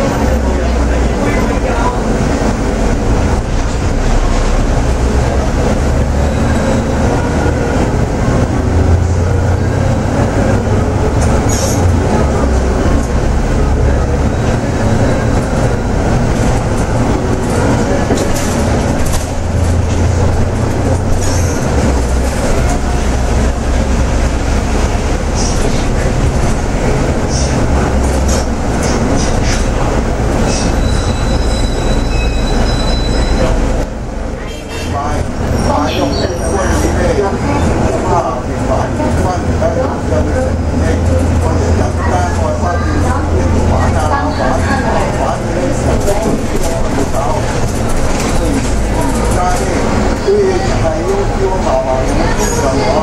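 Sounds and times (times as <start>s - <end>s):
bus diesel engine droning: 0.0s - 53.0s.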